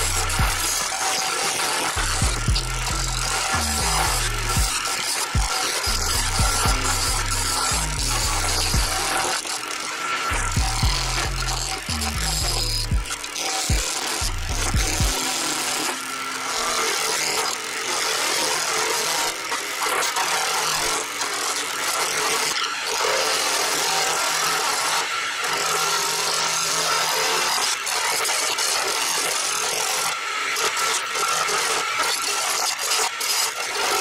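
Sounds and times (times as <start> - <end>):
turning tool scraping shavings: 0.0 - 34.0
wood lathe spinning: 0.0 - 34.0.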